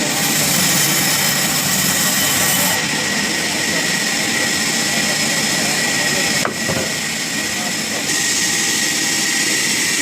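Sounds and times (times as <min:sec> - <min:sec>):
sawmill machine whining: 0:00.0 - 0:10.0.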